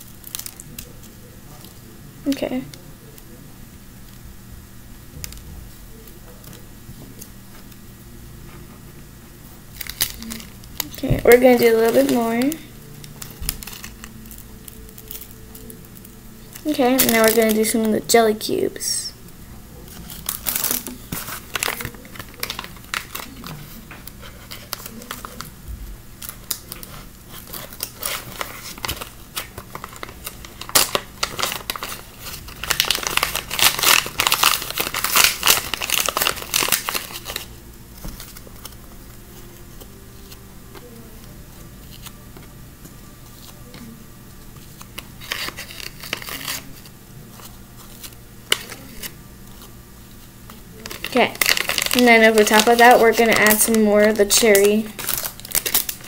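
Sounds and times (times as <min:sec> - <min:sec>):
plastic bag crinkling: 0:09.7 - 0:25.5, 0:26.2 - 0:56.0.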